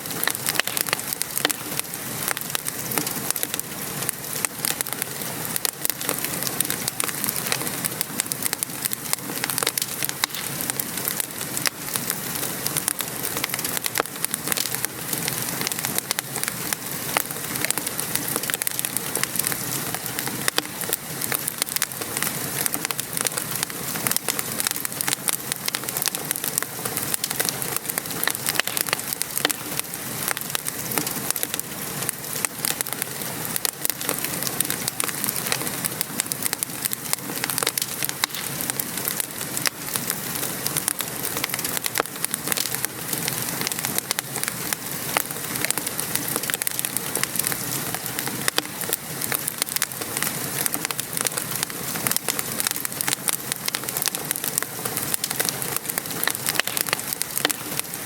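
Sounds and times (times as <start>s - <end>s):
rain pattering: 0.0s - 58.0s
wood fire crackling and popping: 0.0s - 58.0s.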